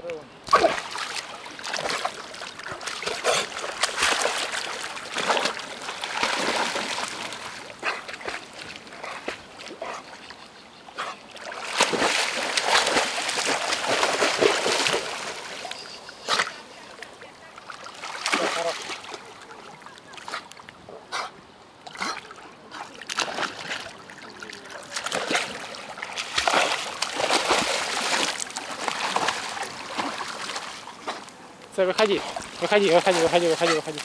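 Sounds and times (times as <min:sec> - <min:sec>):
dog splashing in water: 0:00.5 - 0:09.9, 0:11.0 - 0:16.6, 0:17.7 - 0:19.6, 0:22.1 - 0:23.9, 0:24.6 - 0:31.3, 0:32.0 - 0:34.0.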